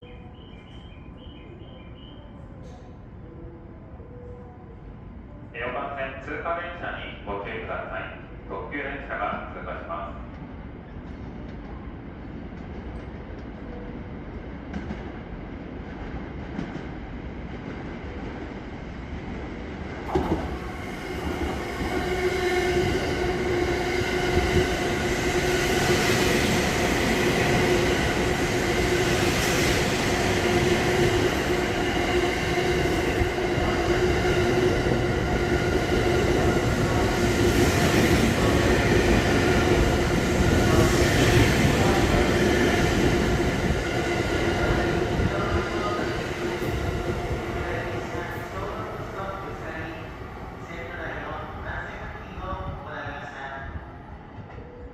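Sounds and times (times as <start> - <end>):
train hum: 0.0 - 54.9
train passing slowly: 0.0 - 54.9.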